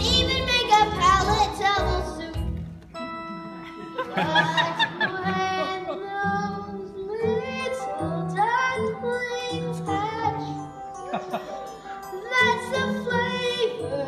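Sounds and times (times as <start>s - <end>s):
child singing: 0.0s - 2.5s, 4.4s - 10.8s, 11.6s - 14.0s
musical accompaniment: 0.0s - 14.0s.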